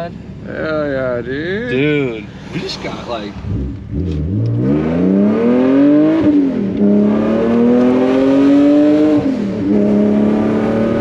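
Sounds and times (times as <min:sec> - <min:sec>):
car engine accelerating with upshifts: 0:01.8 - 0:11.0.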